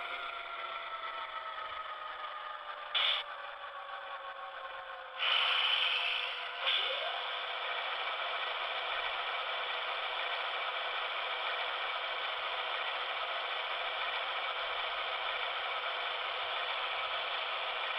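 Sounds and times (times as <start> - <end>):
tinny diesel engine sound: 0.0 - 17.9.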